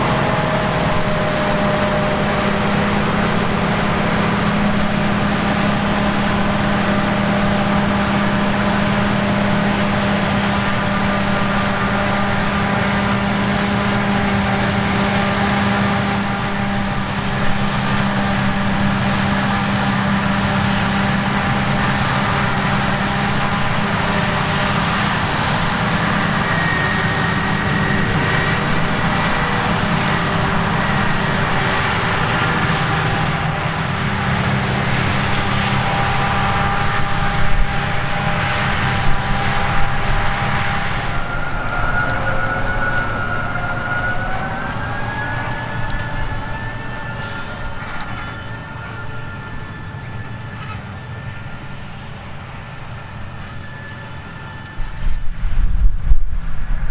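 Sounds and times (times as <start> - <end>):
high whine: 0.0 - 56.7
combine harvester engine hum: 0.0 - 56.9.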